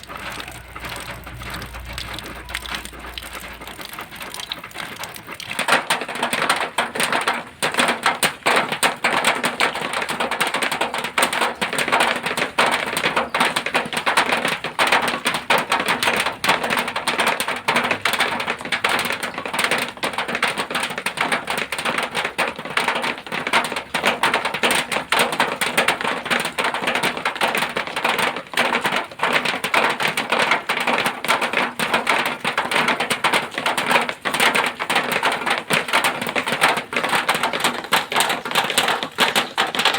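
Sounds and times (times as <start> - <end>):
rain on metal sheeting: 0.0 - 39.9.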